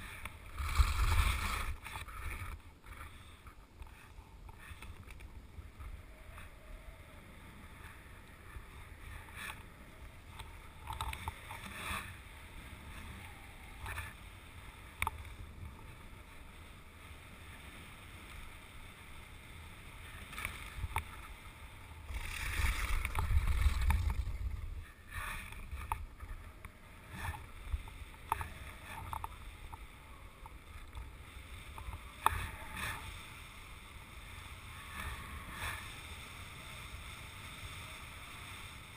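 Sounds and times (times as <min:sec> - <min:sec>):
skis scraping over snowy ice: 0:00.0 - 0:04.8, 0:07.4 - 0:13.2, 0:13.9 - 0:38.9
wind rumbling on microphone: 0:00.0 - 0:38.9.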